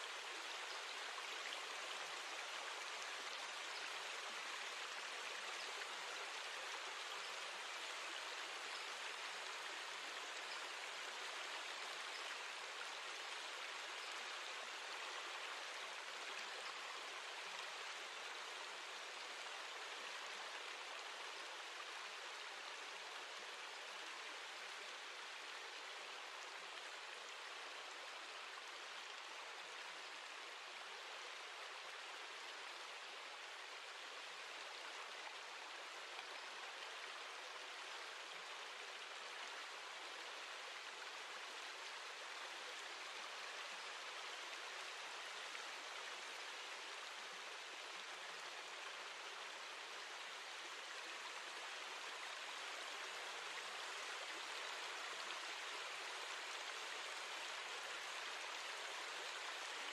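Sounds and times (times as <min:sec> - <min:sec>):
rain: 0:00.0 - 0:59.9.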